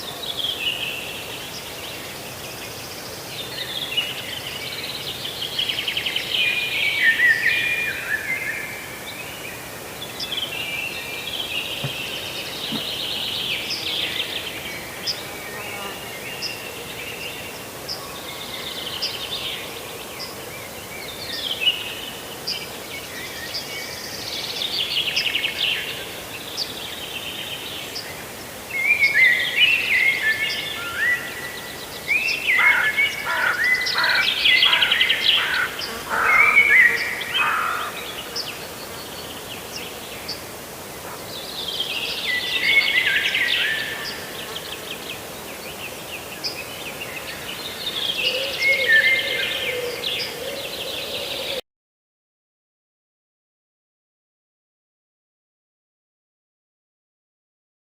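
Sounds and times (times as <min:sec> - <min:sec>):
songbird singing: 0:00.0 - 0:51.6
steady background hiss: 0:00.0 - 0:51.6.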